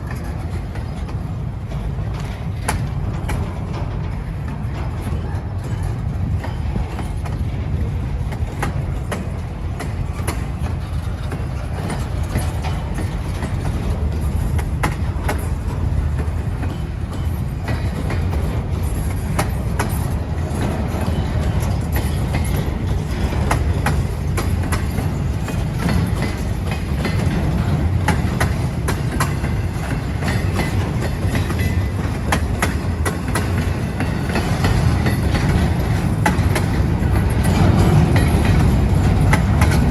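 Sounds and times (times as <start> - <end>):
freight train cars rolling past: 0.0 - 39.9
wheels clicking over rail joints: 0.0 - 39.9.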